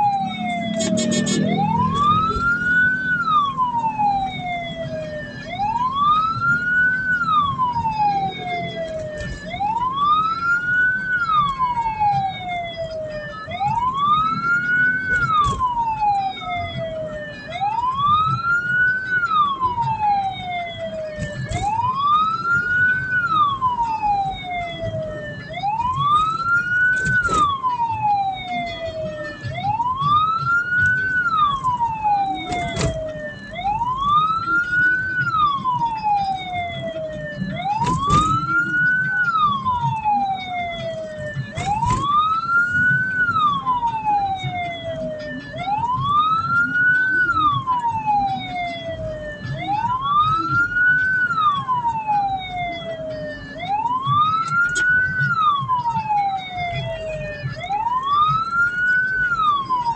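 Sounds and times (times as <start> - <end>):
siren wailing: 0.0 - 59.9
vehicle rumble: 0.0 - 59.9.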